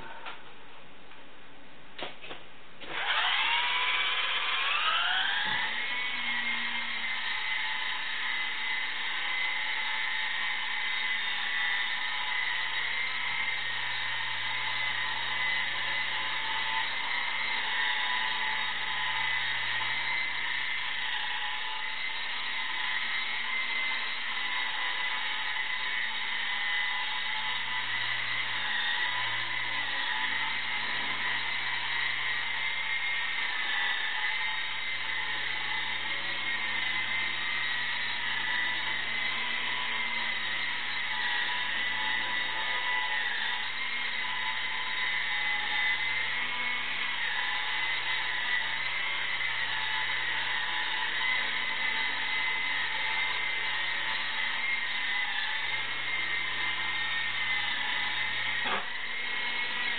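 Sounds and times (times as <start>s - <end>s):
electric motor whine: 2.8s - 59.9s
rotor whir: 2.8s - 59.9s.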